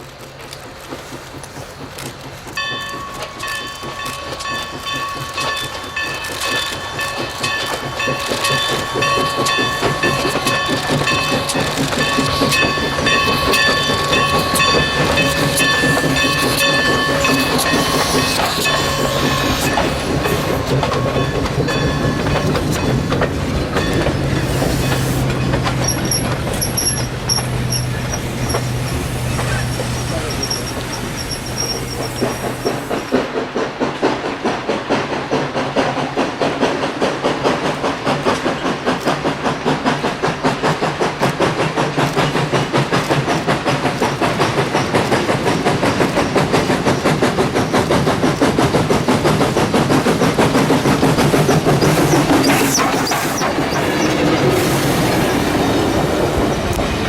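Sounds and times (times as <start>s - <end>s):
wheels clacking on rails: 0.0s - 57.0s.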